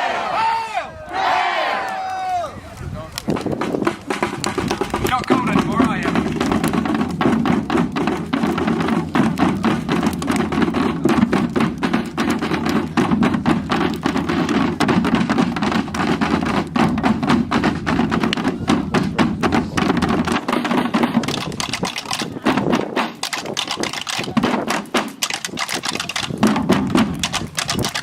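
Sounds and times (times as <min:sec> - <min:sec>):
hand drums playing: 0:03.3 - 0:28.0.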